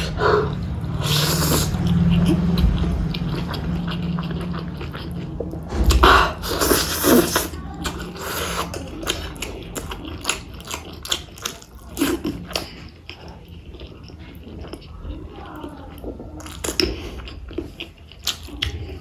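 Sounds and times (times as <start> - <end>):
chewing and wet mouth sounds: 0.0 - 19.0.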